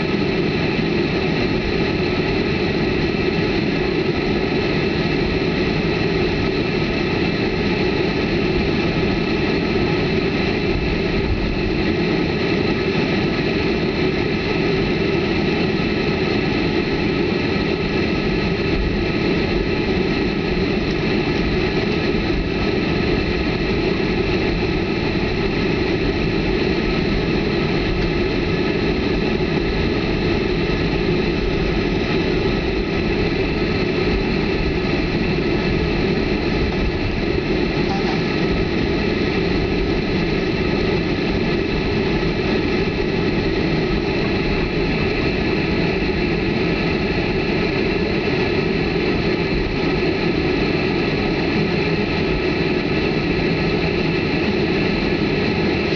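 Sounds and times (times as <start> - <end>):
jet engines rumbling in cabin: 0.0 - 55.9.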